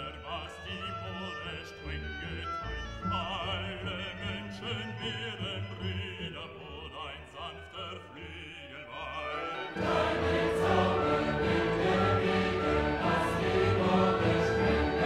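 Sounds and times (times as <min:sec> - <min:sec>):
classical background music: 0:00.0 - 0:15.0
operatic singing voice: 0:00.0 - 0:15.0.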